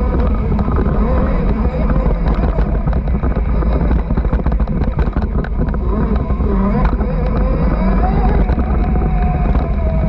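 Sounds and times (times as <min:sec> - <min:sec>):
knocks and clatter from bumps: 0:00.0 - 0:09.9
wavering motor tone: 0:00.0 - 0:10.0
wind buffeting microphone: 0:00.0 - 0:10.0.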